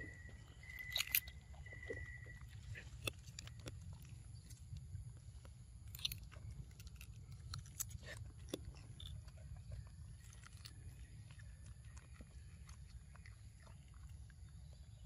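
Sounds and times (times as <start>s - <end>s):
low steady rumble: 0.0s - 15.0s
monkey chewing crisp fruit: 0.0s - 15.0s
small crunches and clicks: 0.0s - 15.0s.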